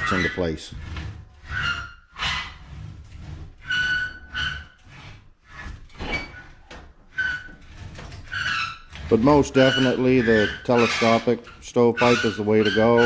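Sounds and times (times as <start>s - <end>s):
sheet metal squealing and scraping: 0.0s - 13.0s.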